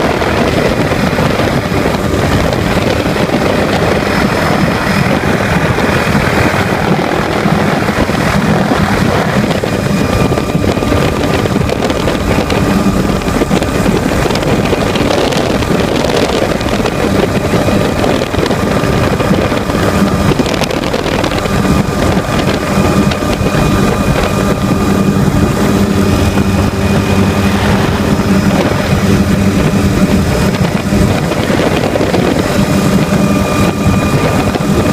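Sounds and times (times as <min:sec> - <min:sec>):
helicopter engine and rotor drone: 0:00.0 - 0:34.9
whining tones: 0:00.0 - 0:34.9.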